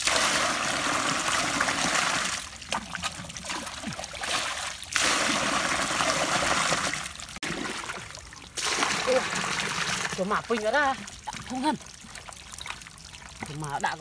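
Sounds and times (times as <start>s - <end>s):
muddy water pouring through sieve: 0.0s - 14.0s
small water splashes: 0.0s - 14.0s.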